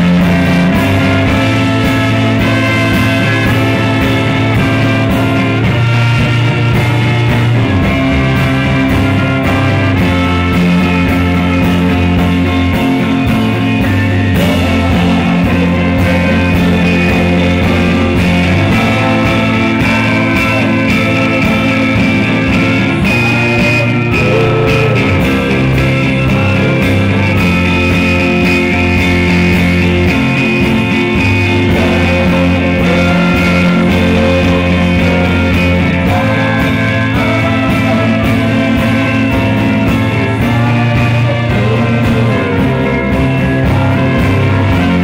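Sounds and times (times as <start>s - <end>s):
rock band playing: 0.0s - 45.0s
trumpet lead line: 0.0s - 45.0s.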